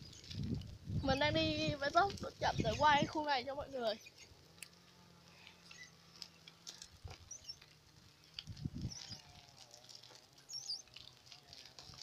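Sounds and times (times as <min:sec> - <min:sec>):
bicycle clicks and rattles: 0:00.0 - 0:12.0.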